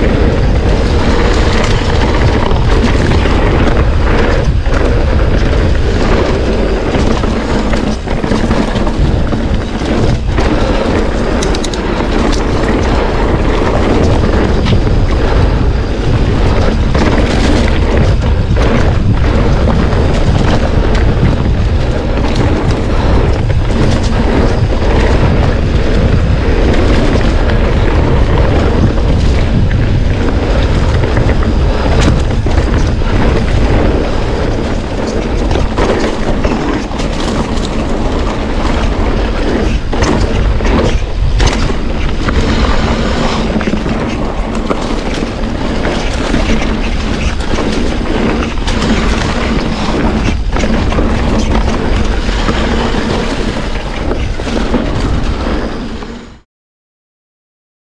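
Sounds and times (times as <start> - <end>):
vehicle in motion: 0.0 - 56.4
wind buffeting microphone: 0.0 - 56.4.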